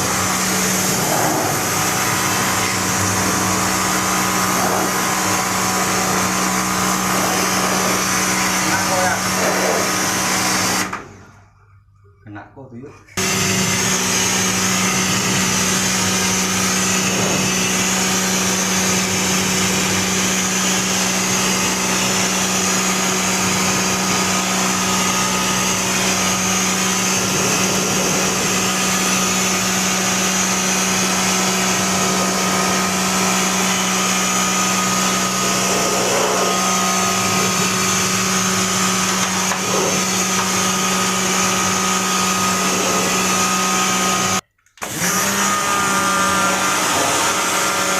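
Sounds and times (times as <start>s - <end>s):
electric motor humming: 0.0s - 11.3s, 13.2s - 47.9s.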